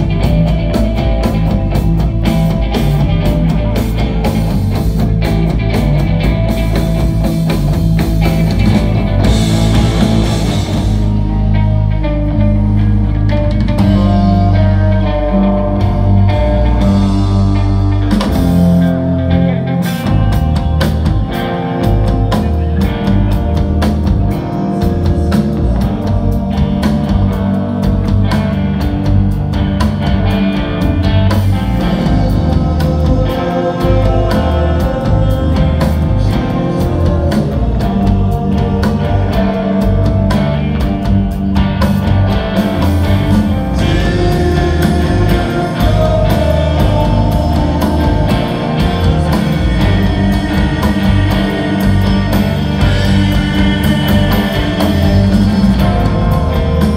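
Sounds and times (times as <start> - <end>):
drums and cymbals: 0.0 - 56.9
electric guitars and bass: 0.0 - 56.9.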